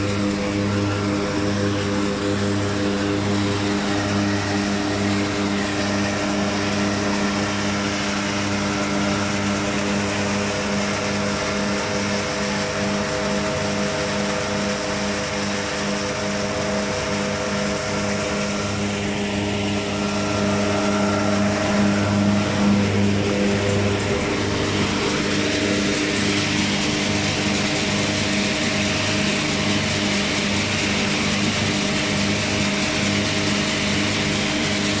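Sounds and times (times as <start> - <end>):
corn sheller machine humming: 0.0 - 35.0.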